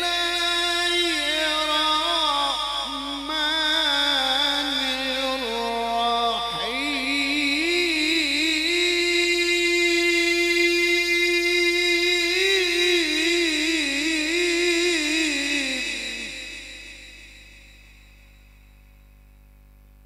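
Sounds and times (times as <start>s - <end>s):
man reciting melodically: 0.0s - 18.1s.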